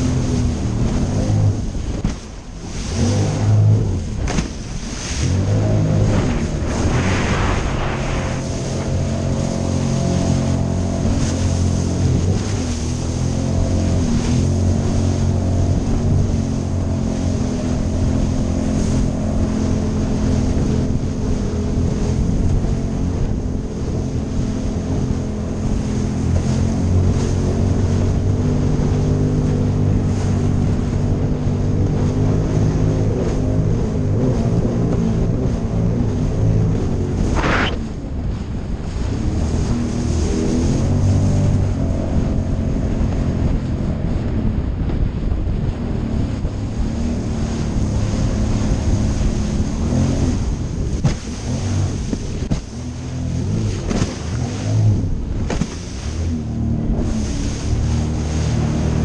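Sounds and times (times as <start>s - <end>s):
personal watercraft engine running: 0.0s - 59.0s
wind on microphone: 0.0s - 59.0s.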